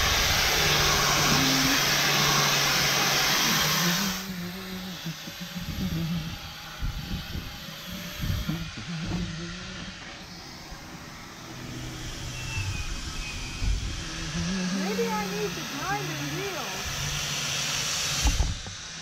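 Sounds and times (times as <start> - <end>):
angle grinder wire brush on steel: 0.0 - 6.8, 7.8 - 17.4
scattered low sounds: 0.0 - 17.2.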